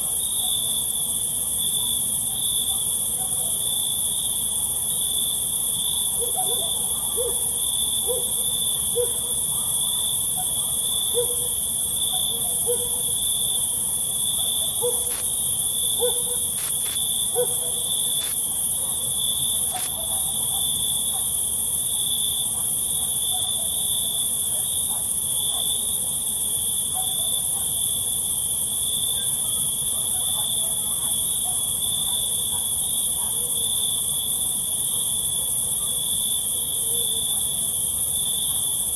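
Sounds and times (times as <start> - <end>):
crickets chirping: 0.0 - 38.9
high insect hiss: 0.0 - 38.9.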